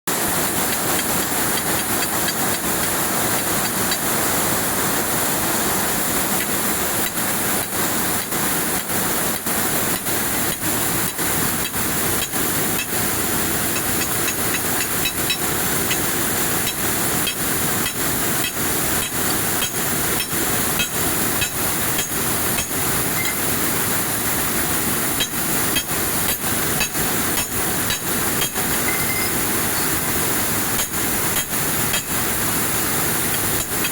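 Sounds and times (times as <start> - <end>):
weaving loom clattering and hissing: 0.1 - 33.9.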